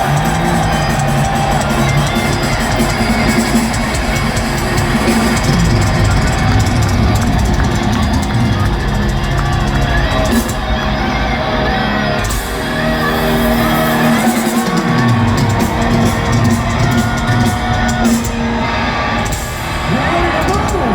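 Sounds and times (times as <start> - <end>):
crowd whooping and shouting: 0.0 - 20.9
heavy metal band playing: 0.0 - 20.9.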